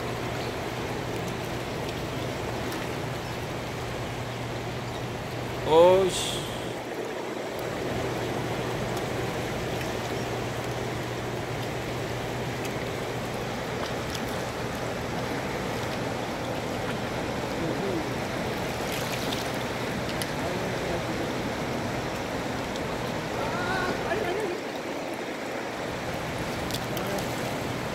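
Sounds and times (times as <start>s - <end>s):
choppy flowing water: 0.0s - 27.9s.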